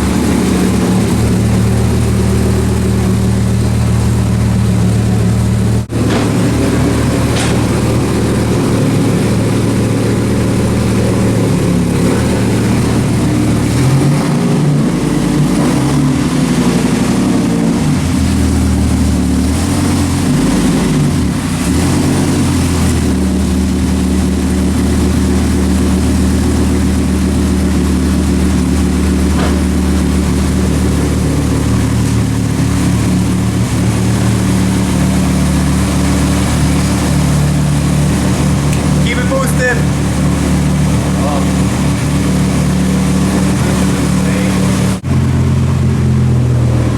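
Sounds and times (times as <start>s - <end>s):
truck engine revving and idling: 0.0s - 46.9s.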